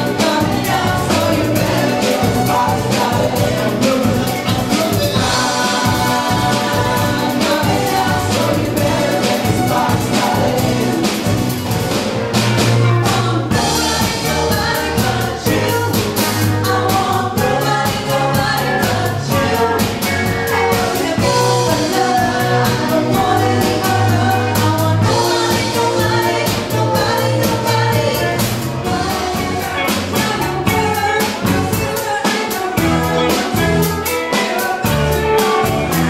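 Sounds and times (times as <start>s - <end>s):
woman singing: 0.0s - 11.2s, 12.9s - 36.0s
bass line: 0.0s - 36.0s
drum kit with cymbals: 0.0s - 36.0s
electric guitars: 0.0s - 36.0s.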